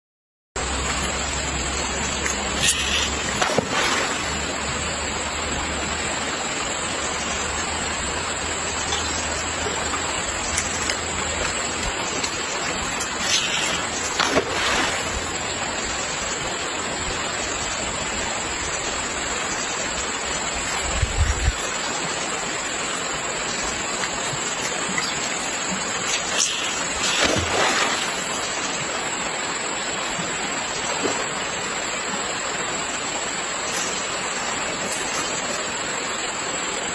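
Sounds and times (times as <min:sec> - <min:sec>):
river water rushing: 0:00.6 - 0:36.9
water splashes: 0:00.6 - 0:36.9.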